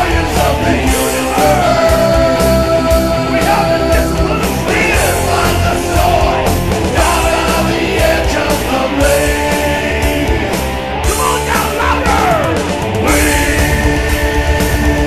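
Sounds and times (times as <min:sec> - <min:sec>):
heavy metal song with vocal: 0:00.0 - 0:15.0.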